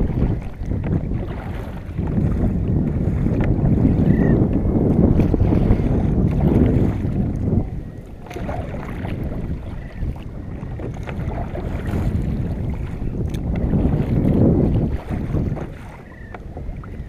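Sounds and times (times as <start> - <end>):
water lapping against hull: 0.0 - 17.0
wind buffeting microphone: 0.0 - 17.0.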